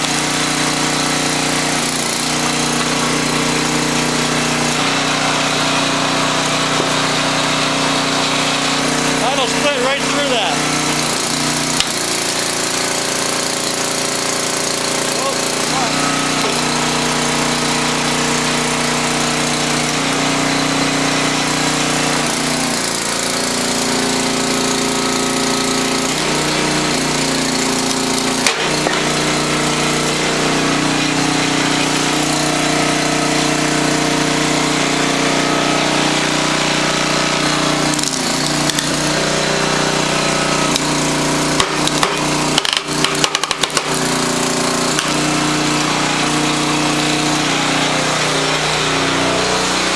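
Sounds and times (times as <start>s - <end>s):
log splitter engine running: 0.0s - 49.9s.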